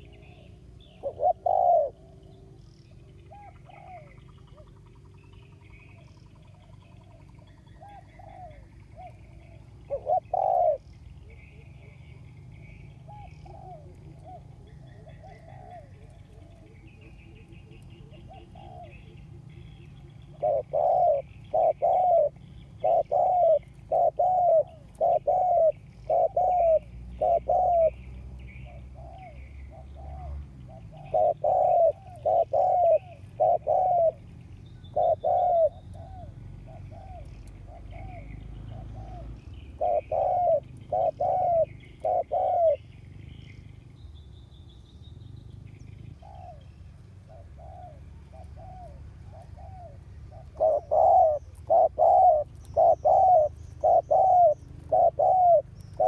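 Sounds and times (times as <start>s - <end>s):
dove cooing: 0.0s - 43.8s, 46.0s - 56.0s
small birds chirping faintly: 0.0s - 56.0s.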